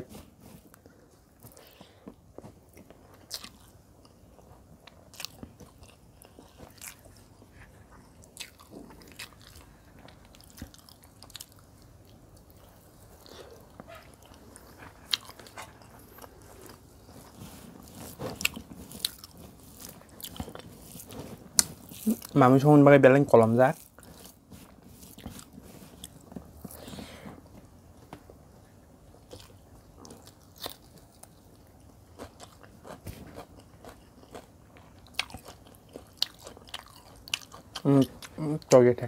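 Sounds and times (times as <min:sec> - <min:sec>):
person chewing food: 0:00.1 - 0:22.4, 0:23.7 - 0:38.8.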